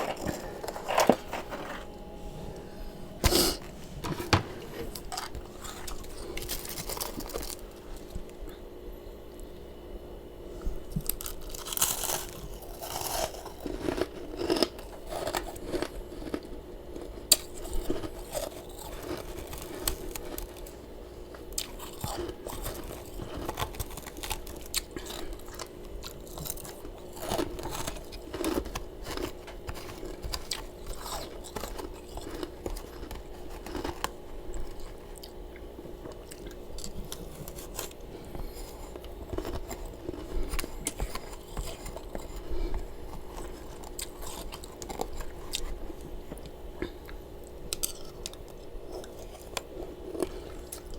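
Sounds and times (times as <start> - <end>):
chewing crunchy frost: 0.0 - 2.6, 3.2 - 8.7, 10.5 - 50.9
steady low hum: 0.0 - 50.9.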